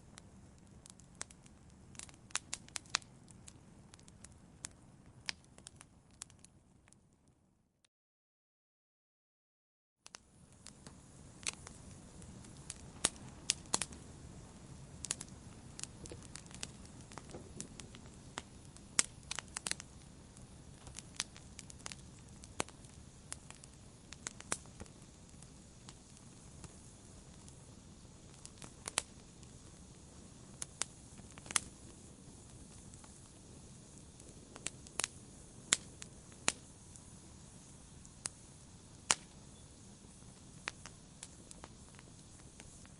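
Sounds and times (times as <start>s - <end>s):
flames rustling: 0.0s - 6.6s, 10.1s - 42.9s
fire popping and snapping: 0.0s - 7.2s, 10.0s - 42.9s.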